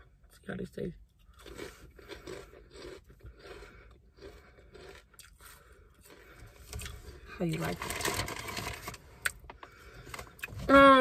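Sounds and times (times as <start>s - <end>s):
person chewing potato chips: 1.1s - 10.8s.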